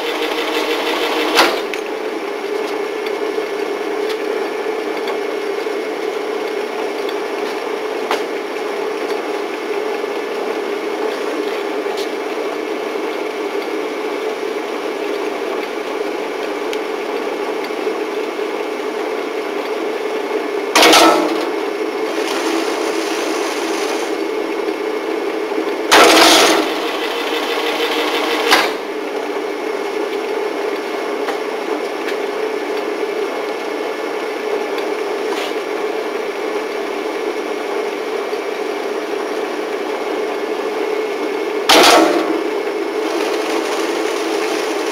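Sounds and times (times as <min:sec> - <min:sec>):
binding machine humming: 0:00.0 - 0:30.4, 0:39.3 - 0:44.9.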